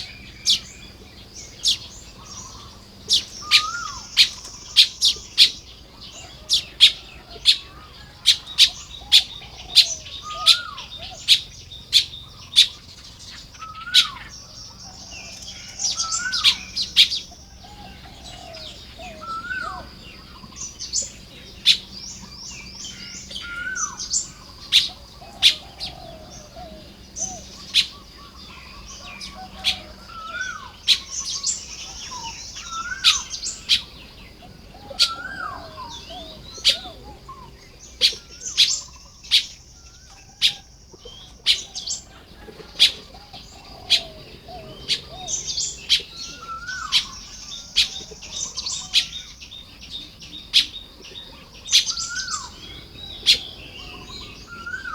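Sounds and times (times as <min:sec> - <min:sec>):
low whistled bird notes: 0:00.0 - 0:42.2, 0:42.8 - 0:54.9
birds chattering: 0:00.0 - 0:54.9
buzzy wheezing birdsong: 0:00.0 - 0:54.9.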